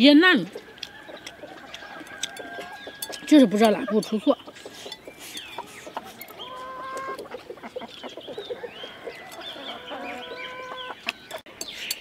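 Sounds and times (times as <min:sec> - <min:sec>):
chickens clucking: 0:00.2 - 0:12.0.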